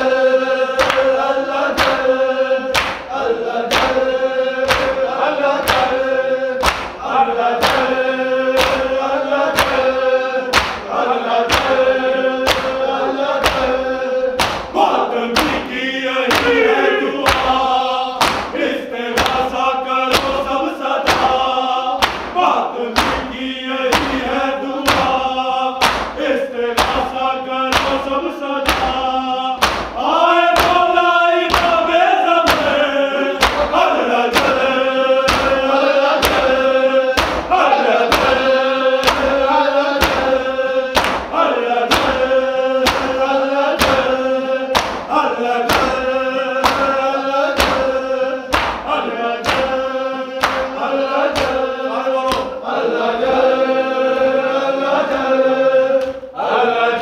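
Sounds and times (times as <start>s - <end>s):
men chanting a lament in unison: 0.0s - 57.0s.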